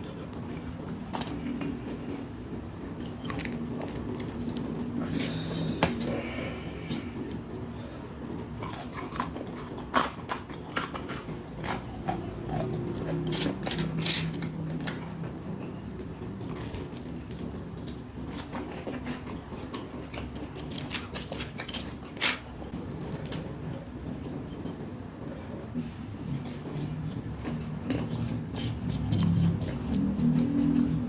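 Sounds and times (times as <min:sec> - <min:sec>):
biting and chewing fried snacks: 0:02.8 - 0:07.6, 0:08.2 - 0:24.8, 0:26.3 - 0:31.0.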